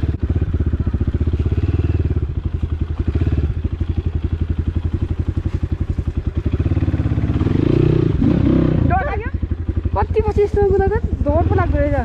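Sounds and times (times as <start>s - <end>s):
dirt bike engine at low revs: 0.0s - 12.0s.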